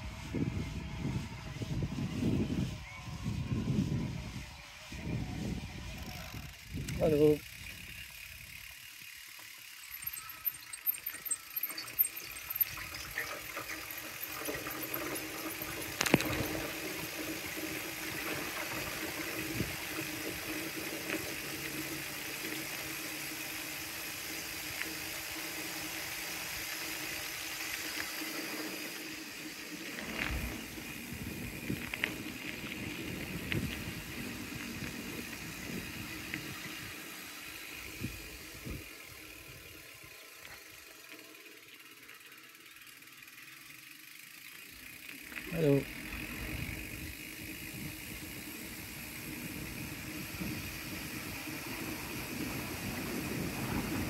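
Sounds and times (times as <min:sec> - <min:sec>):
bicycle tyre and wind rush: 0:00.0 - 0:54.0
bicycle rattling clicks: 0:06.0 - 0:54.0.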